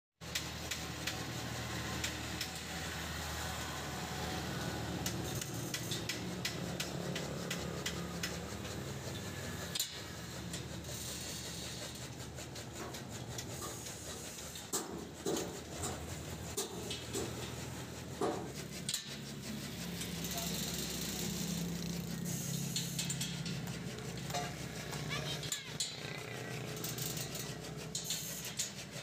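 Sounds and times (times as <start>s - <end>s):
low machine hum: 0.4s - 29.0s.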